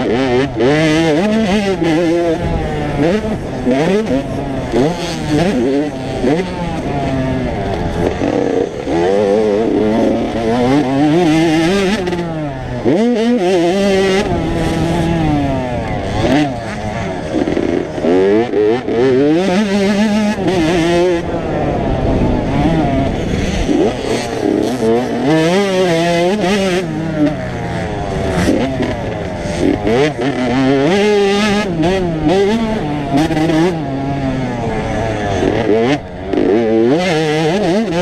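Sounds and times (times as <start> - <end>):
motocross bikes revving: 0.0 - 38.0.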